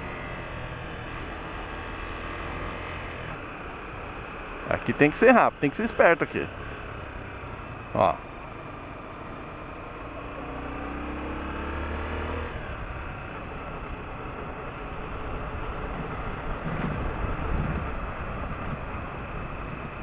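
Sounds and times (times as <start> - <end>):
motorcycle engine accelerating: 0.0 - 20.0
road and riding noise: 0.0 - 20.0.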